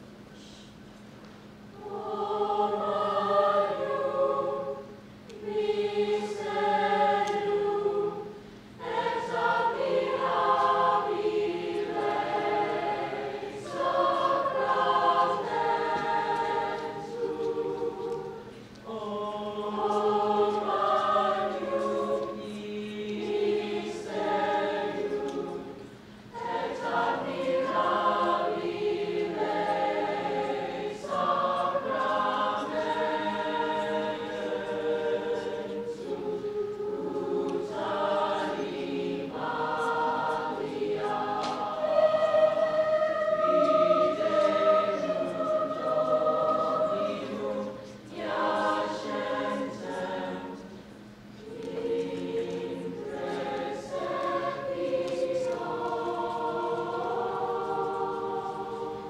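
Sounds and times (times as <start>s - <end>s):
mixed chorus singing: 1.7s - 59.0s.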